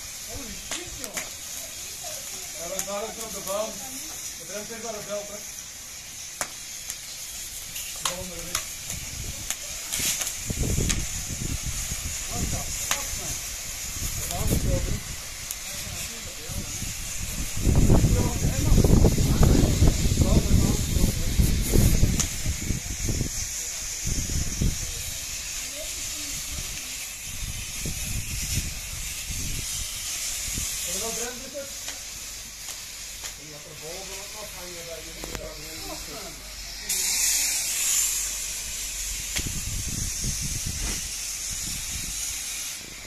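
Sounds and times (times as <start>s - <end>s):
fire crackling and popping: 0.0s - 43.0s
fire extinguisher hiss: 0.0s - 43.0s.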